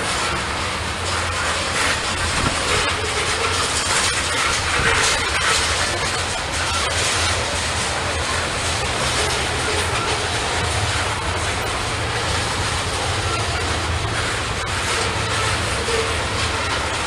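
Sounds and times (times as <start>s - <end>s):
freight train rumbling past: 0.0s - 17.0s
wheels clicking on rails: 0.0s - 17.0s.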